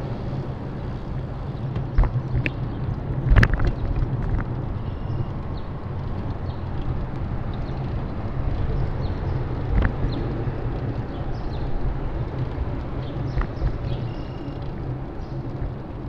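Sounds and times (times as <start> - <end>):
bicycle riding rumble: 0.0 - 16.0.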